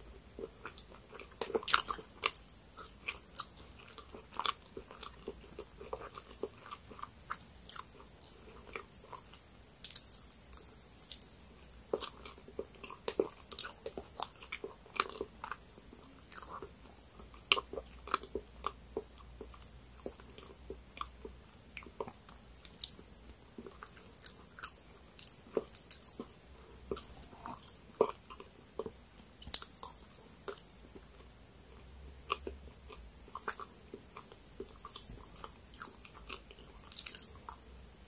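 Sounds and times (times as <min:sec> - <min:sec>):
person chewing cake: 0:00.0 - 0:37.9.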